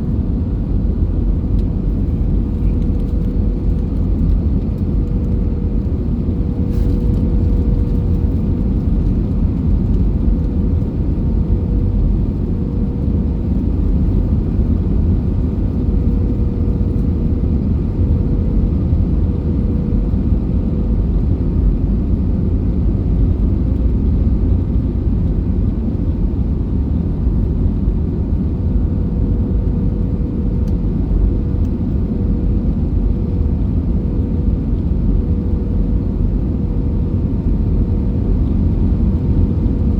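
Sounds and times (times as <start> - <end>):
airplane low rumble: 0.0 - 39.9.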